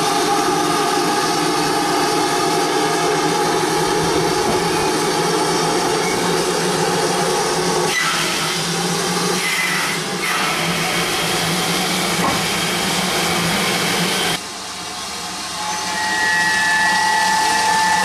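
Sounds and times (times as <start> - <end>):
steam hissing from locomotive: 0.0 - 18.0.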